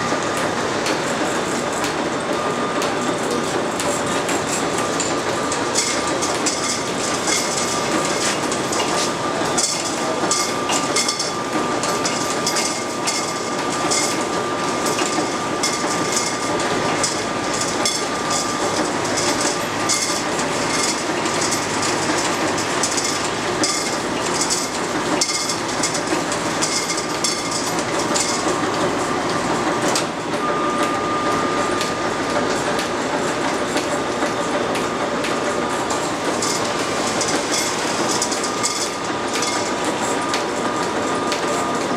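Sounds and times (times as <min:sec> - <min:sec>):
machinery clatter: 0:00.0 - 0:41.9
thin steady whine: 0:00.0 - 0:41.9.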